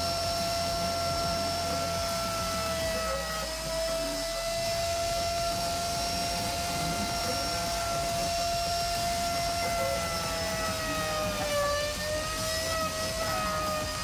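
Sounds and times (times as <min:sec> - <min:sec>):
router motor whine: 0:00.0 - 0:14.0.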